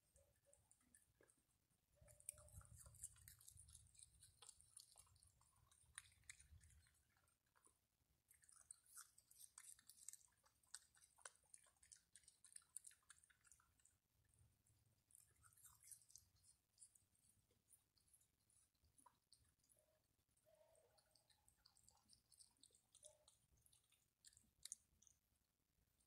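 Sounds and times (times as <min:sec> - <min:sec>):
animal chewing food: 0:00.0 - 0:25.5.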